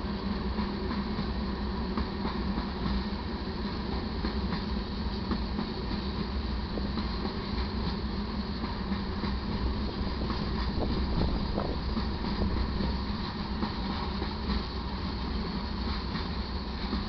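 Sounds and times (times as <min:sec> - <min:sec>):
steel wheels rumbling on track: 0:00.0 - 0:17.0.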